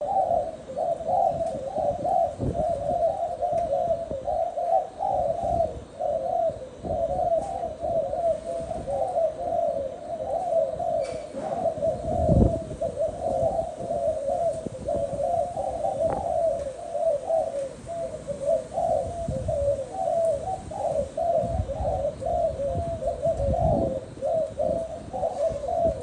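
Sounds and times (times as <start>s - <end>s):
doves cooing: 0.0s - 26.0s.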